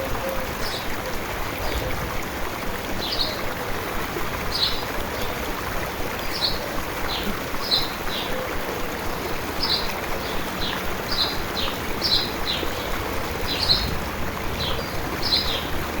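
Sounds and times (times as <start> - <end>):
stream running: 0.0 - 16.0.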